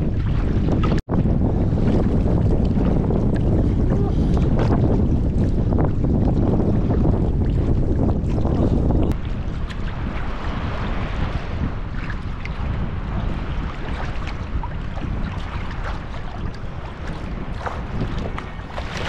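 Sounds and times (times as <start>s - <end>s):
water splashing against kayak: 0.0s - 19.0s
wind rumbling on microphone: 0.0s - 19.0s.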